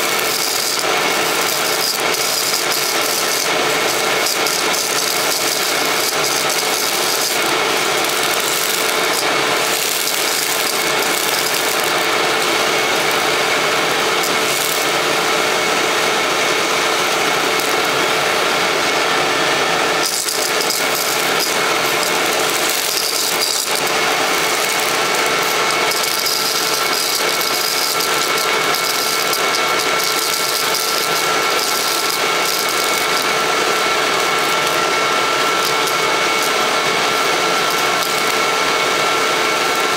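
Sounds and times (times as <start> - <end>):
debris rattling up vacuum hose: 0.0 - 39.9
vacuum cleaner motor whine: 0.0 - 39.9.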